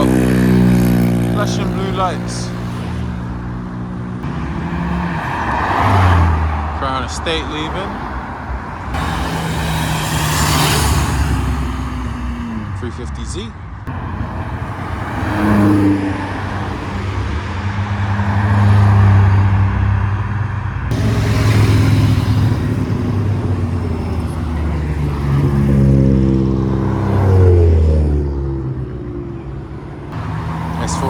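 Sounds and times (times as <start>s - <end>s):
car engine revving: 0.0s - 31.0s
car engines passing slowly: 0.0s - 31.0s.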